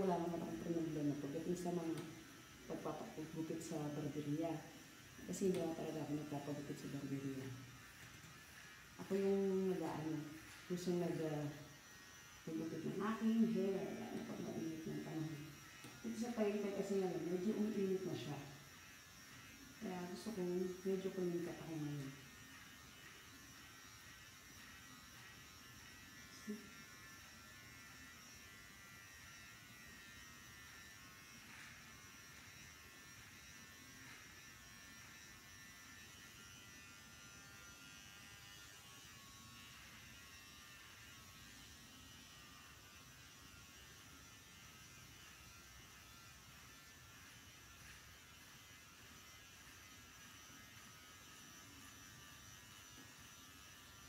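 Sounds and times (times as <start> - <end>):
hair clippers buzzing: 0.0 - 54.0.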